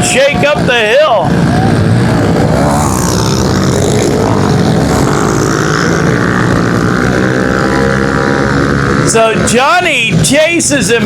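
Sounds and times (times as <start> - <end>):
pit bike engines racing: 0.0 - 11.0.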